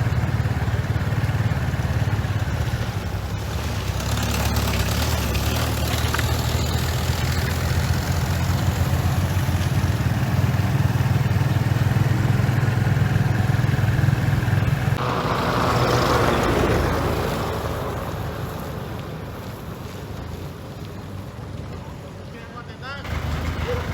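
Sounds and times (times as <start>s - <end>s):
bulldozer diesel engine droning: 0.0s - 21.6s, 23.0s - 23.9s.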